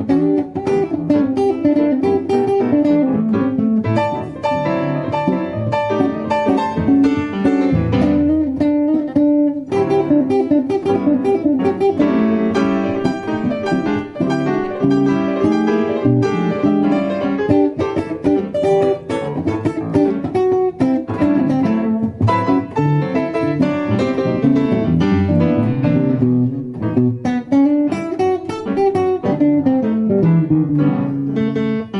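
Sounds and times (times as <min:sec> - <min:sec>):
blues guitar playing: 0:00.0 - 0:31.9.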